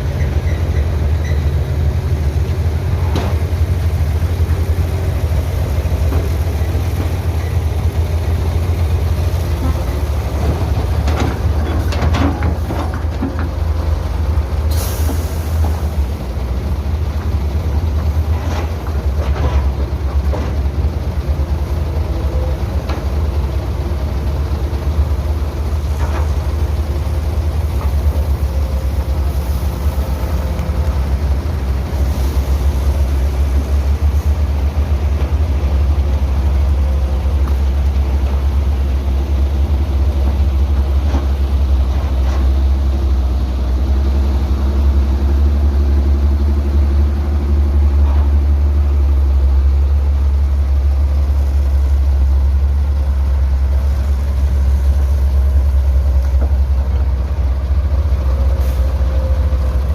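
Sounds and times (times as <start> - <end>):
diesel machinery rumbling: 0.0 - 59.9.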